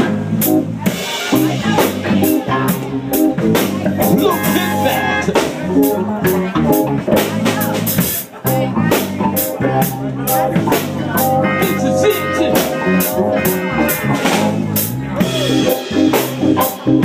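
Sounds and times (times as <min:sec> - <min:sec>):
drum kit beat: 0:00.0 - 0:17.0
electric guitars: 0:00.0 - 0:17.0.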